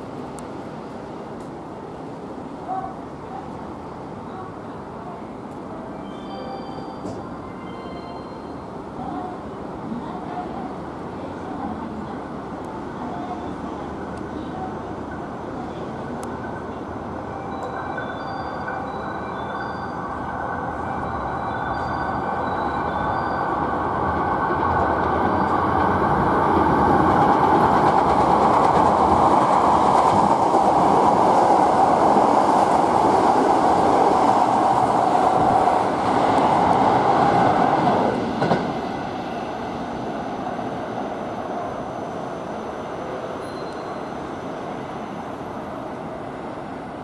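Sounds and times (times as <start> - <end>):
diesel railcar running past: 0.0 - 47.0.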